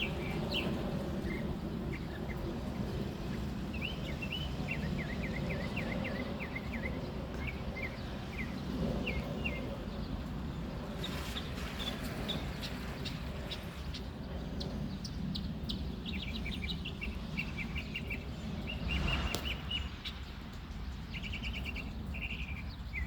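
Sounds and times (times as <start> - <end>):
low rumble of background noise: 0.0 - 23.0
songbird singing: 0.0 - 23.0.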